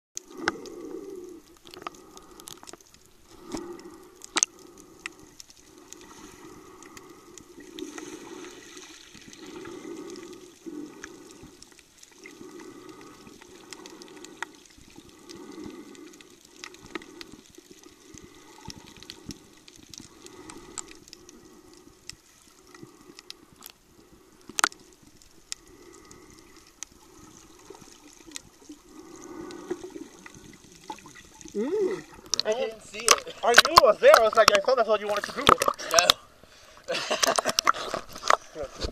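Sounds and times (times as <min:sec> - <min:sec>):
sharp underwater clicks: 0:00.2 - 0:36.2, 0:37.2 - 0:38.9
muffled underwater water movement: 0:00.2 - 0:38.9.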